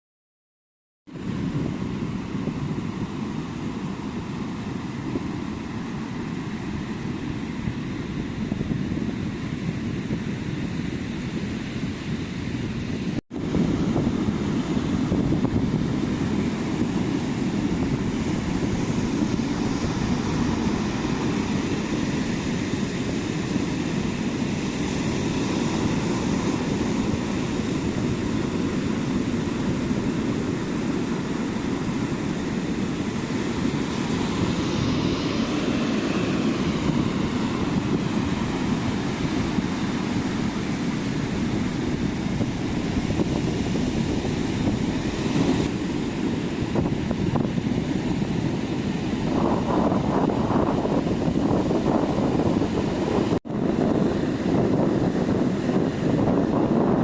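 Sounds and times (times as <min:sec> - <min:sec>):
ocean surf breaking: 0:01.1 - 0:57.0.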